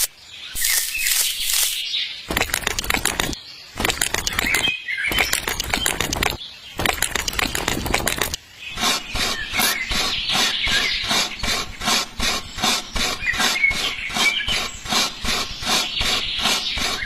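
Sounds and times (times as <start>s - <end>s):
rhythmic rasping strokes: 2.3s - 17.0s.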